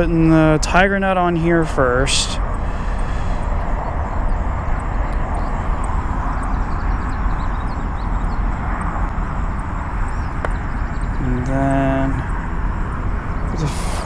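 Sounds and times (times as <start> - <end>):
rumbling outdoor background noise: 0.0 - 14.0.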